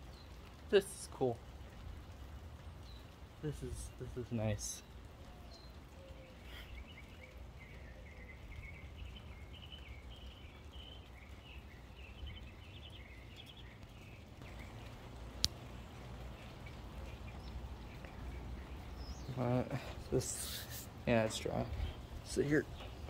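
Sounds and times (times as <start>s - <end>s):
light rain: 0.0s - 23.0s
small birds chirping: 0.0s - 23.0s.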